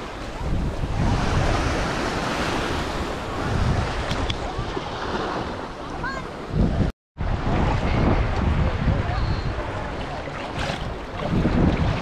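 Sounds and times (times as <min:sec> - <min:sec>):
sea waves washing ashore: 0:00.0 - 0:12.0
wind gusting on microphone: 0:00.0 - 0:12.0.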